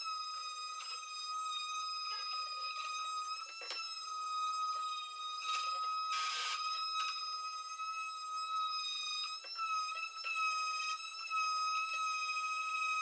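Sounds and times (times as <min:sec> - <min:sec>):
electric palm sander whining: 0:00.0 - 0:13.0.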